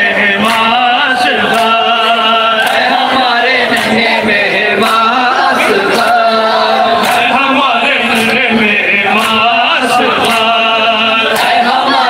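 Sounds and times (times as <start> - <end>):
men chanting a lament: 0.0 - 12.0
sharp rhythmic strikes: 0.0 - 12.0.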